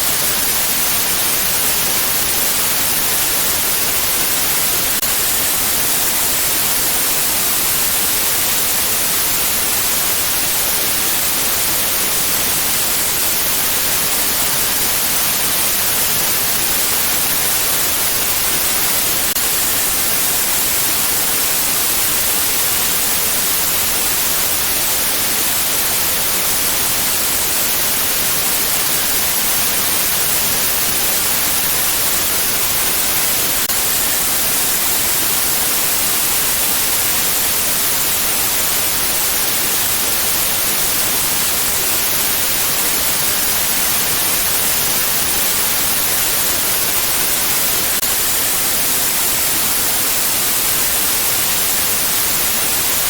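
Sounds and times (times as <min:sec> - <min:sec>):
steady white noise hiss: 0:00.0 - 0:53.0.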